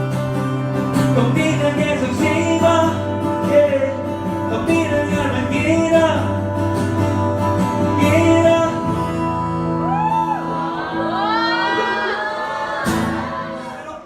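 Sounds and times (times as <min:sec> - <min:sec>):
person singing live music: 0:00.0 - 0:14.0.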